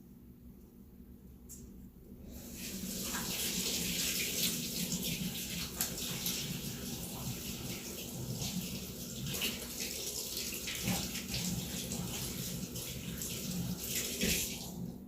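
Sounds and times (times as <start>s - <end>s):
water running: 2.3s - 15.0s.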